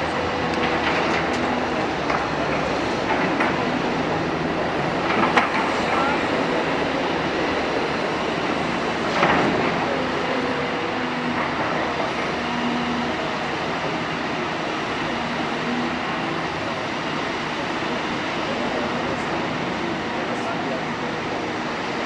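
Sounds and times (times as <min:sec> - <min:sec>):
excavator engine and hydraulics: 0:00.0 - 0:22.0.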